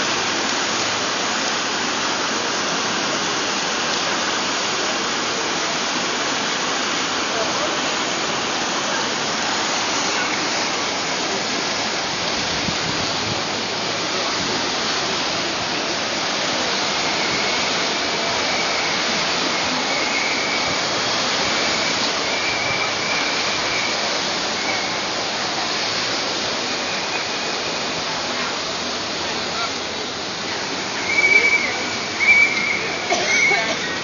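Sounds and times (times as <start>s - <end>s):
falling rain hiss: 0.0s - 34.0s.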